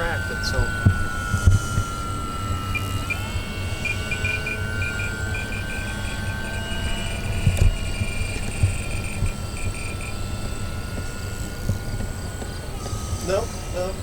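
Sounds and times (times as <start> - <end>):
electric motor propeller whine: 0.0 - 14.0
rapid pulsing chirp: 0.0 - 14.0.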